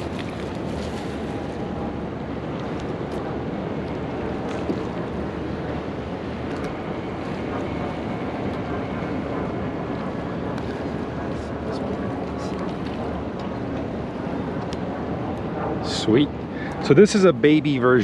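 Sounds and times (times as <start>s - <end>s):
water lapping around boat: 0.0s - 15.8s
wind on microphone: 0.0s - 16.9s.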